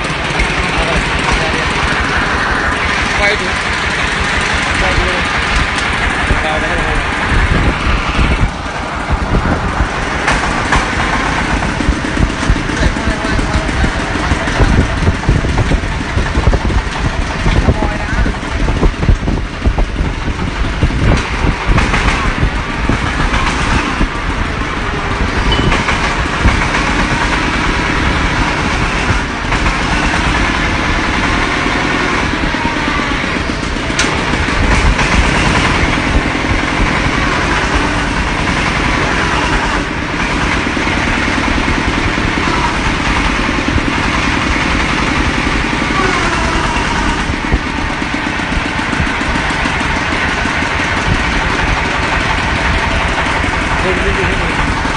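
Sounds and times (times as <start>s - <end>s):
drilling machine engine running: 0.0s - 54.9s.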